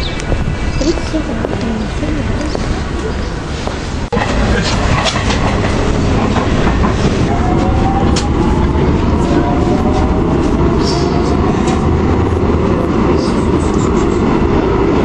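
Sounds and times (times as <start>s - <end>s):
rail clicks: 0.0s - 15.0s
train wheels rumbling on rails: 0.0s - 15.0s.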